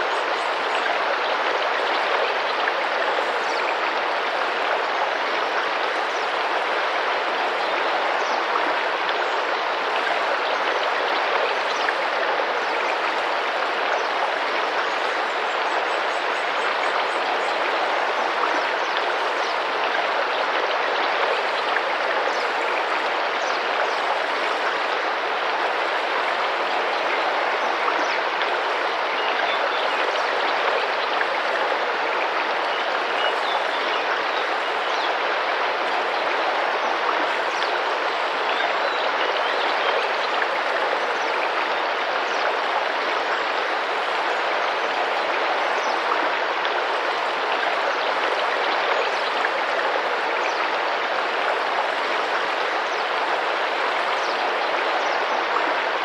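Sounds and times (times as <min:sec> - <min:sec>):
river flowing and splashing: 0:00.0 - 0:56.0.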